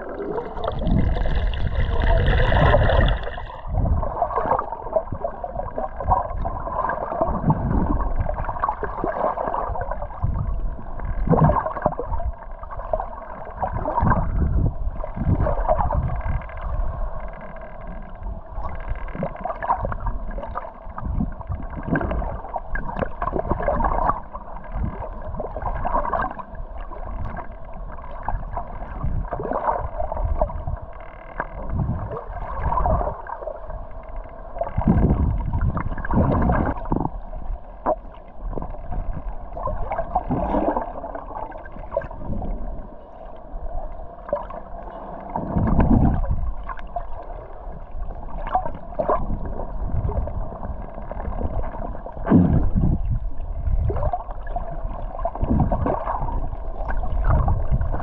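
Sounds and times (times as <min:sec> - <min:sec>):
muffled underwater water sloshing: 0:00.0 - 0:58.0.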